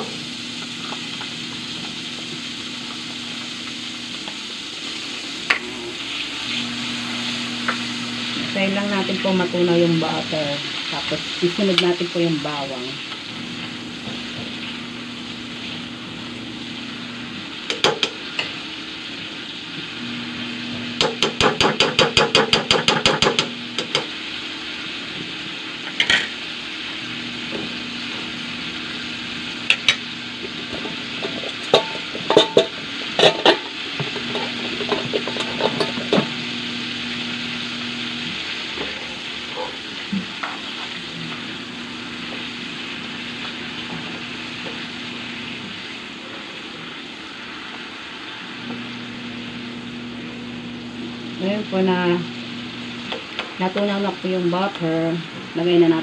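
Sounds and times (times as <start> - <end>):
butter sizzling in a wok: 0.0 - 56.0.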